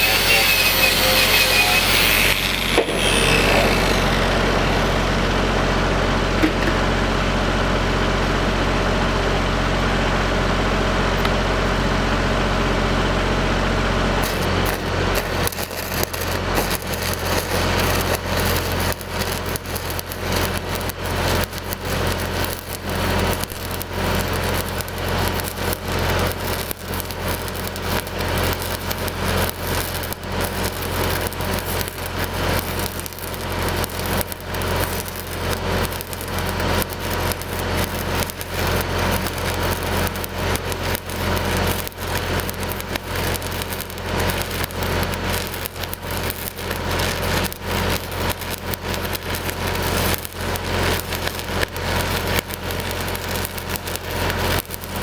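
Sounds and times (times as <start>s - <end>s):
welding arc crackling: 0.0s - 5.2s, 14.2s - 55.0s
welder engine humming: 0.0s - 6.6s, 13.5s - 55.0s.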